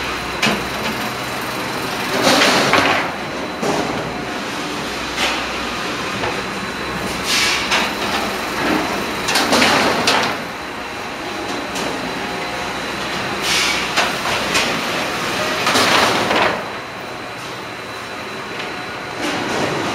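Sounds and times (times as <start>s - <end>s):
conveyor machinery rumble: 0.0s - 19.9s.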